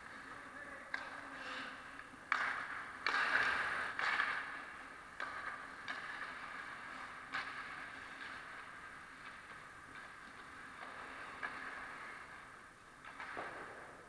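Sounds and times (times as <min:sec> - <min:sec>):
skates scraping on ice: 0:00.0 - 0:14.0.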